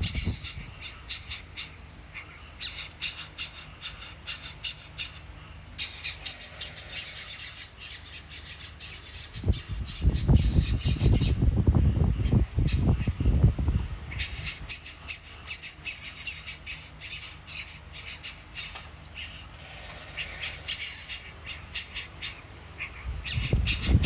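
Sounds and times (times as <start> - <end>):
chicks cheeping: 0.0 - 24.0.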